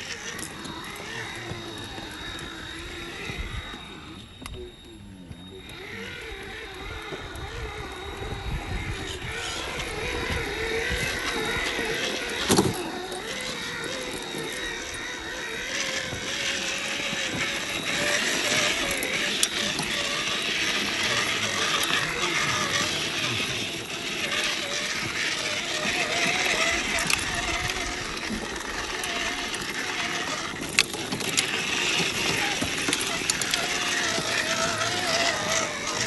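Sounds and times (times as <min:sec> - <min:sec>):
toy truck motor whining: 0:00.0 - 0:36.0.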